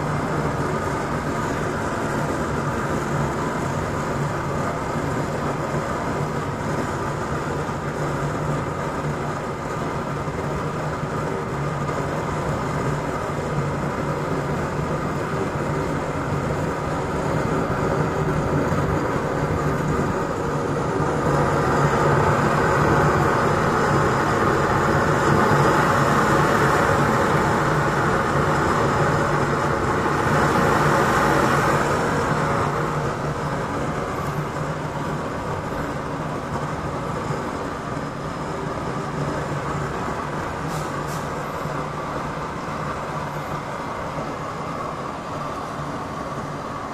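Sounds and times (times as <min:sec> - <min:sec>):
oil burner stove roaring: 0:00.0 - 0:46.9.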